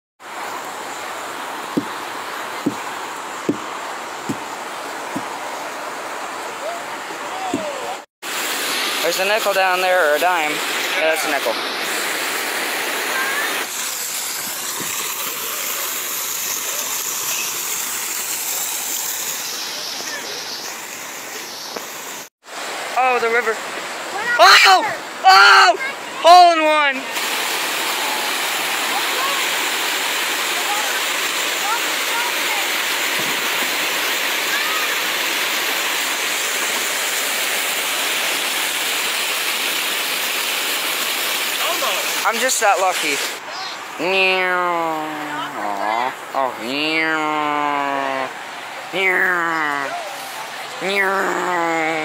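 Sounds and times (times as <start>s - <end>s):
waterfall splashing into pond: 0.2s - 52.0s.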